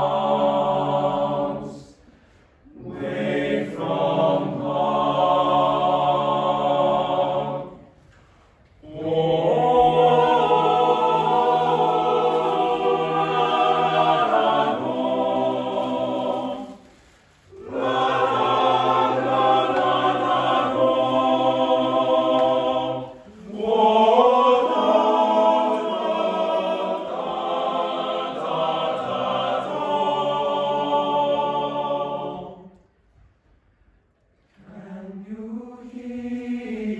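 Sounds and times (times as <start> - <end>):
boys' choir singing: 0.0 - 8.0, 8.8 - 33.0, 34.6 - 36.9.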